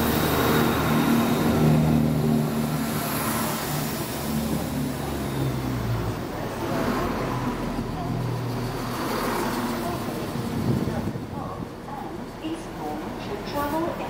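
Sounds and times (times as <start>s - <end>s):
passenger train passing: 0.0s - 14.0s.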